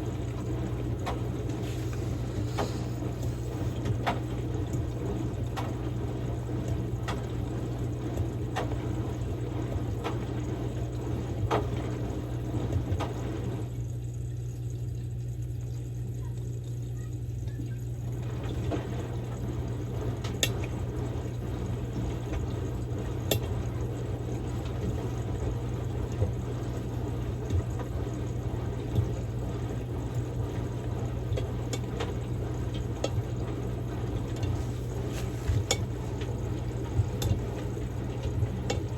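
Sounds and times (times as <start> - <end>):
water sloshing in drum: 0.0 - 13.4, 18.1 - 38.9
washing machine motor hum: 0.0 - 38.9.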